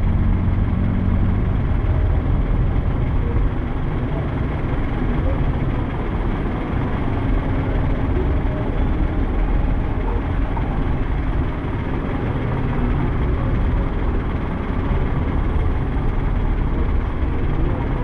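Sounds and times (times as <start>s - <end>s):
road noise: 0.0s - 18.0s
vehicle engines rumbling: 0.0s - 18.0s.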